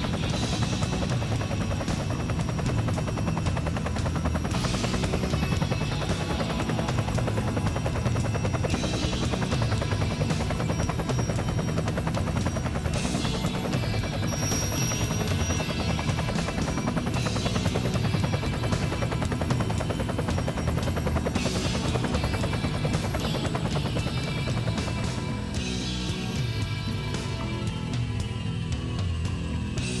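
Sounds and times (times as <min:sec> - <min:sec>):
toy helicopter rotor chopping: 0:00.0 - 0:25.7.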